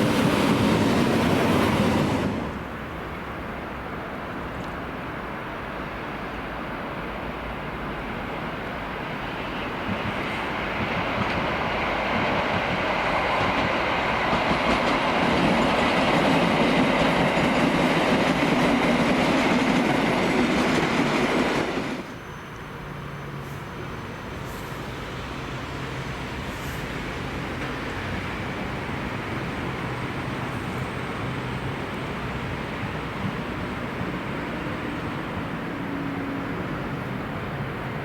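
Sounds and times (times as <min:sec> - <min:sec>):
train passing close by: 0:00.0 - 0:38.0.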